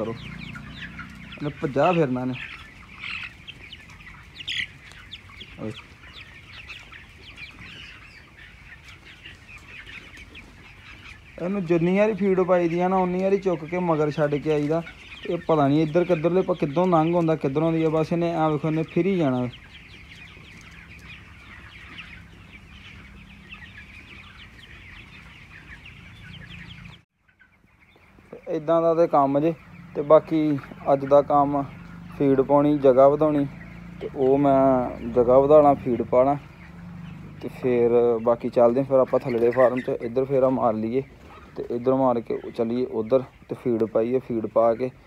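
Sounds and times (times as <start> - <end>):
chickens peeping: 0.0 - 45.0.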